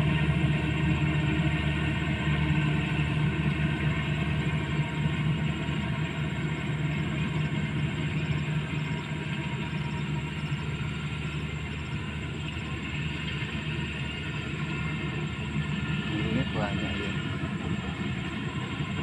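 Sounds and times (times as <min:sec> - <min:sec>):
combine harvester engine hum: 0:00.0 - 0:19.0.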